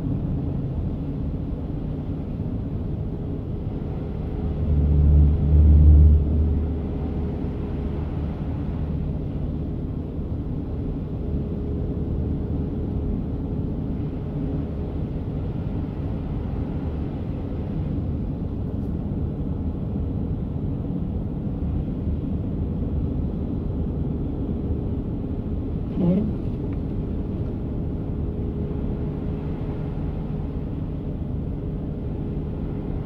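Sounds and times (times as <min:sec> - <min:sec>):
car road rumble inside cabin: 0:00.0 - 0:33.0
faint steady hum: 0:00.0 - 0:33.0.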